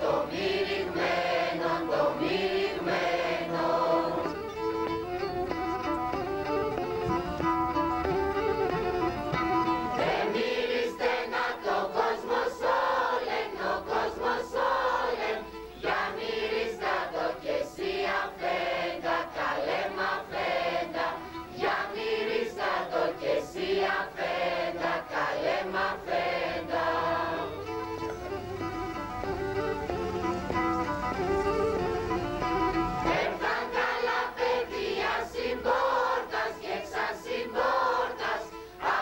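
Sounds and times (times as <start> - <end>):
choir singing carols: 0.0 - 6.6, 9.1 - 39.0.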